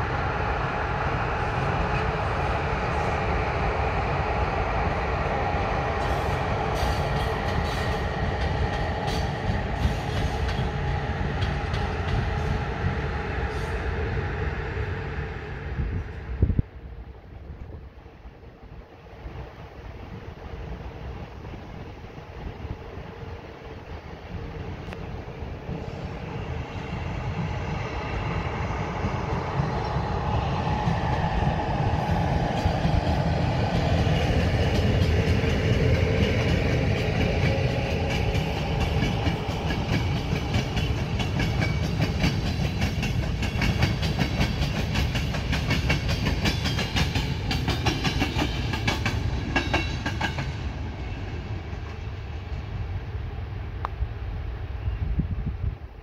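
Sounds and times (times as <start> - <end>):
train passing by: 0.0 - 56.0.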